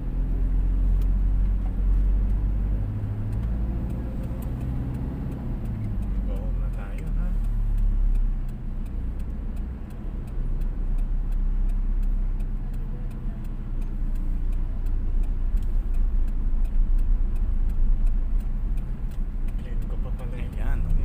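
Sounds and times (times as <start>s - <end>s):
car engine and road rumble: 0.0s - 21.0s
turn signal clicking: 0.1s - 21.0s.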